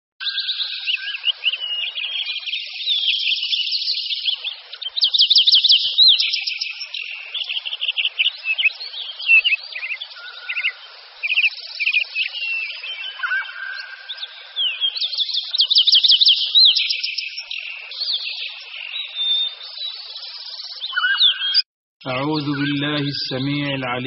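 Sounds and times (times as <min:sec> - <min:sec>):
birds singing and chirping: 0:00.2 - 0:24.0.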